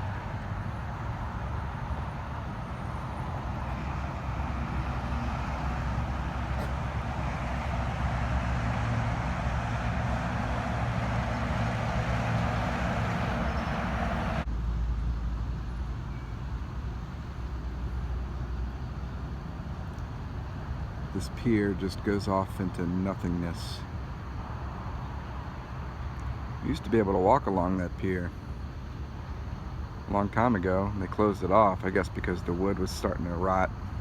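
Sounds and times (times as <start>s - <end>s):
outdoor rumble with hiss: 0.0s - 34.0s.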